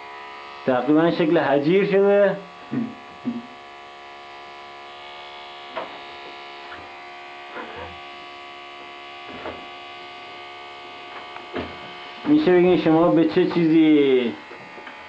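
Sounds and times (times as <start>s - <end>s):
hair trimmer humming: 0.0s - 15.0s
trimmer blade scratching hair: 0.0s - 15.0s.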